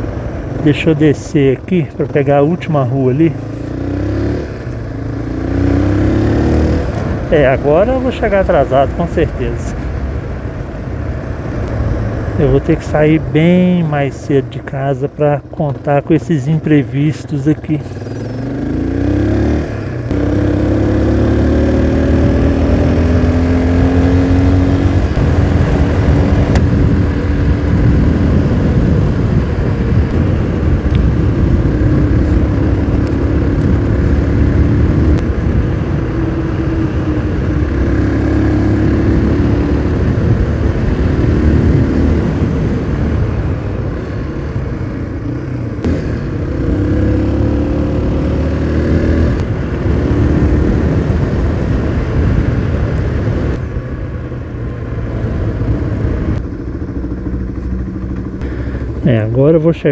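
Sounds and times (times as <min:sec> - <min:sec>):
motorcycle engine accelerating: 0:02.0 - 0:09.5, 0:16.7 - 0:59.9.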